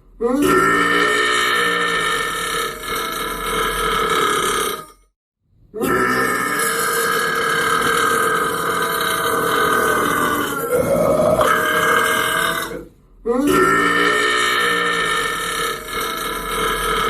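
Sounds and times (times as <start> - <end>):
man burping: 0.2 - 4.9, 5.7 - 17.0.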